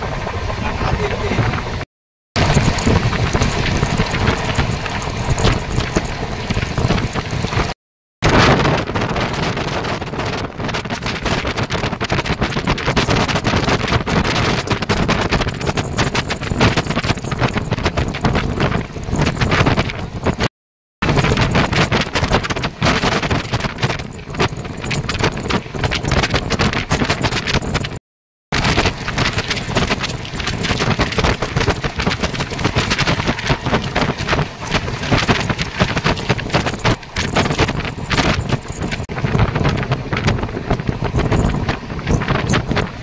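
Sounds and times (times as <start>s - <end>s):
wind buffeting microphone: 0.0s - 1.8s, 2.4s - 28.0s, 28.6s - 43.0s.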